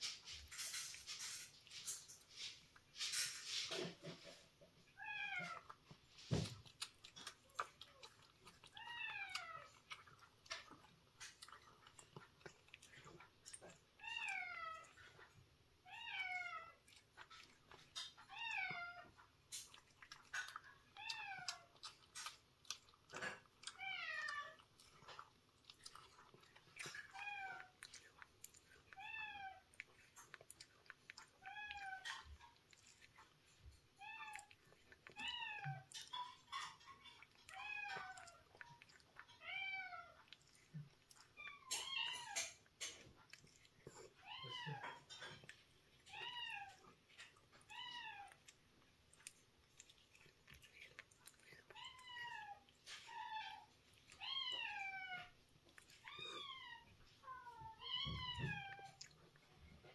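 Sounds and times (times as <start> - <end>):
cat chewing and lapping food: 0.0 - 59.9.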